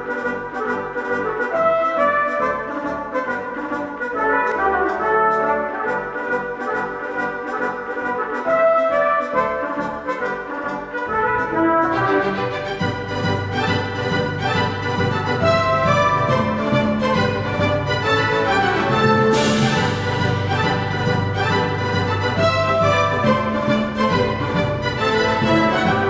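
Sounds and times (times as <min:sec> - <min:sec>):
brass melody over a beat: 0:00.0 - 0:26.0.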